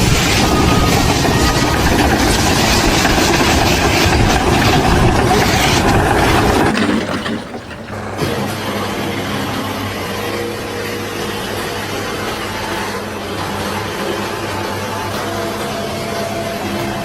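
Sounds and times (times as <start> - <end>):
loud mechanical rumble: 0.0 - 17.0.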